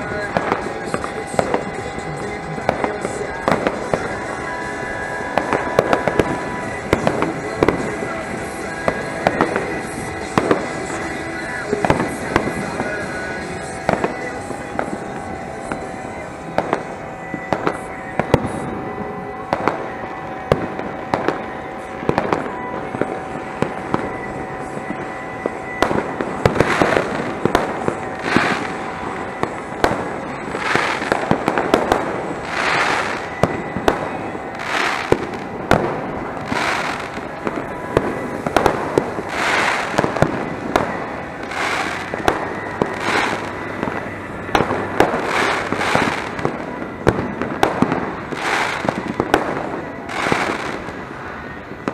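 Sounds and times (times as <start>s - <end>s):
fireworks and firecrackers banging: 0.0s - 51.9s.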